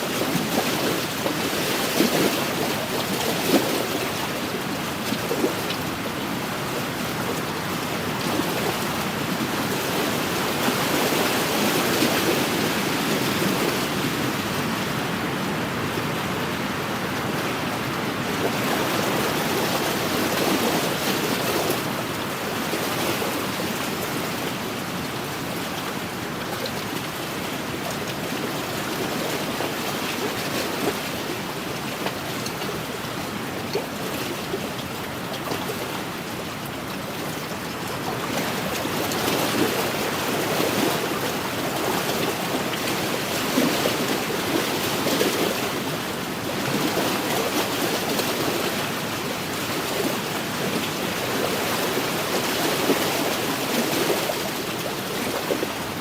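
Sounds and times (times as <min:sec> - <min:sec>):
waves washing against shore: 0:00.0 - 0:56.0.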